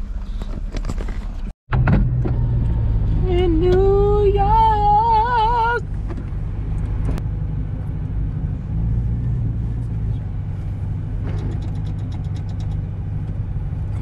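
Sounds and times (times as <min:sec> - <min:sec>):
car driving drone from inside: 0:00.0 - 0:14.0.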